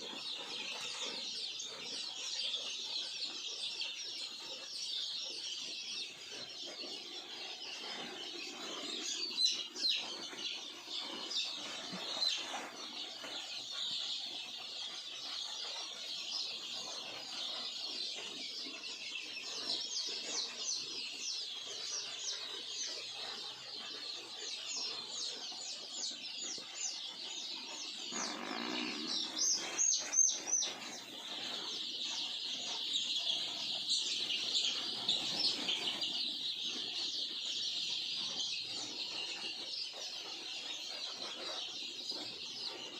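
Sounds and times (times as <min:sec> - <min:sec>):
chickens peeping and chirping: 0:00.0 - 0:42.9.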